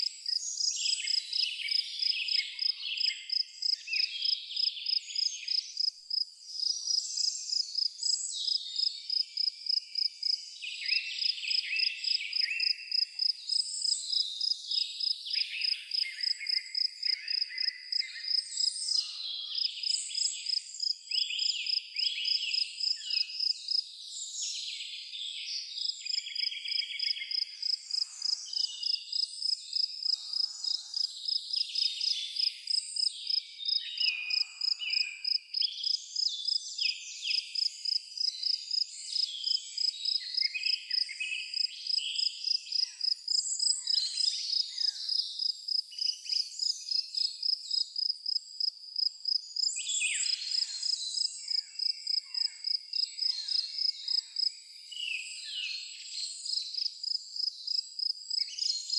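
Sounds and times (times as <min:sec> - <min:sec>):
cricket chirping: 0:00.0 - 0:23.8, 0:25.8 - 0:36.6, 0:37.3 - 0:55.3, 0:56.0 - 0:58.9
birds singing and calling: 0:00.0 - 0:47.8, 0:49.4 - 0:56.8.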